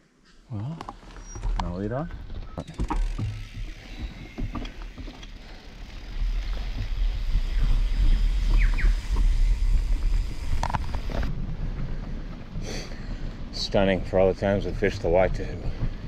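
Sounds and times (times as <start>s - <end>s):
bike rattles and clicks: 0.9s - 16.0s
bike tyres rumbling on dirt: 1.0s - 16.0s.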